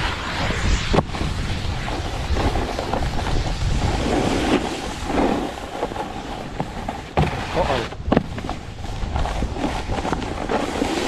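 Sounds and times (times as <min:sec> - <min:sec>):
snowboard scraping over snow: 0:00.0 - 0:11.0
wind on microphone: 0:00.0 - 0:11.0.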